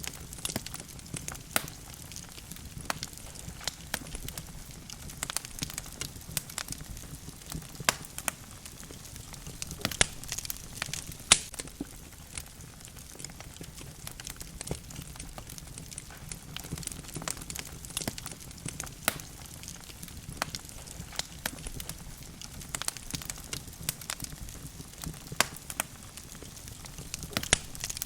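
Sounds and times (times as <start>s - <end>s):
logs crackling in fireplace: 0.0s - 28.0s.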